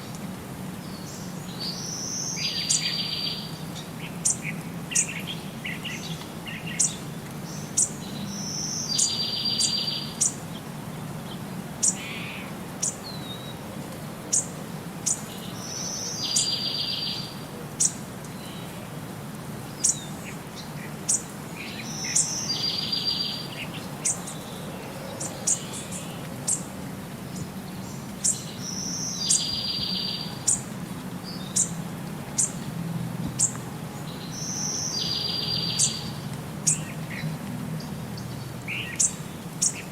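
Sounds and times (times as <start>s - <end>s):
birds chirping: 0.8s - 13.6s, 14.3s - 19.0s, 19.6s - 39.9s.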